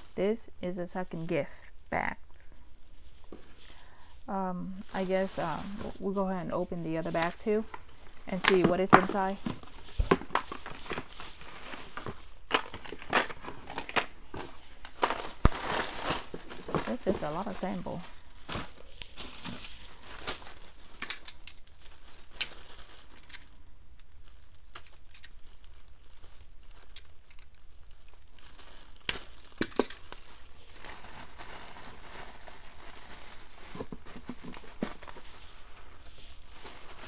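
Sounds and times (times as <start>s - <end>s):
packaging crinkling: 6.9s - 37.0s.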